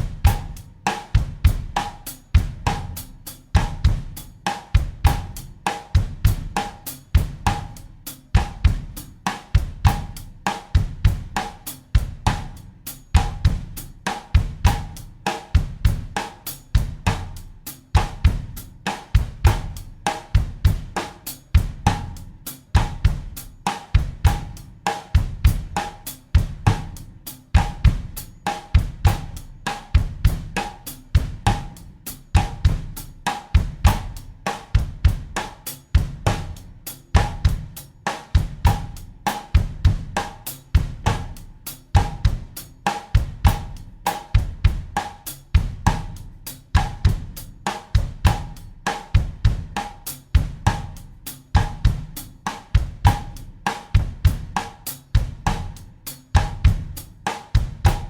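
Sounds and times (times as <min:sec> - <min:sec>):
drum kit bossa nova groove: 0:00.0 - 0:58.0.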